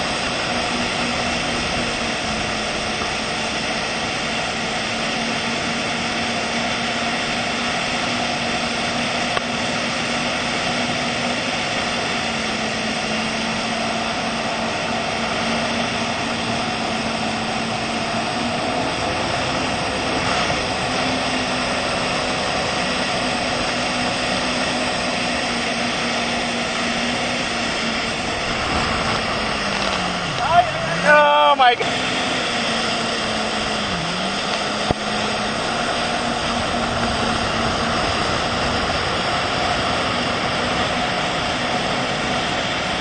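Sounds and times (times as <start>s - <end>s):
motorboat engine drone: 0.0s - 43.0s
rushing wind and water: 0.0s - 43.0s.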